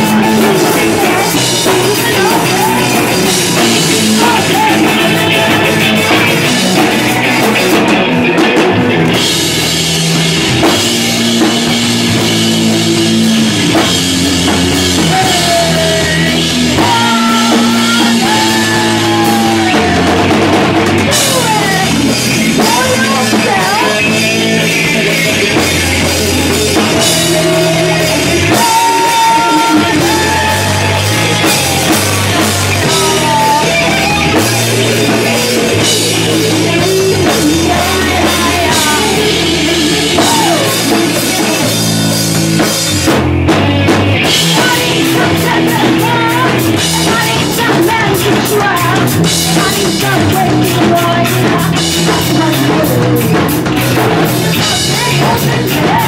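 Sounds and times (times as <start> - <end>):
rock band playing live: 0.0 - 56.0
sliding pitched guitar lines: 0.0 - 56.0.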